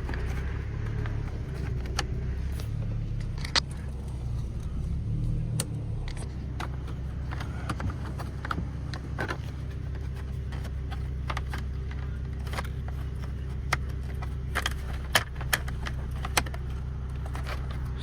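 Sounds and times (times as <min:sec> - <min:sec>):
plastic parts clicking: 0:00.0 - 0:04.8, 0:05.4 - 0:18.0
steady low hum: 0:00.0 - 0:18.0.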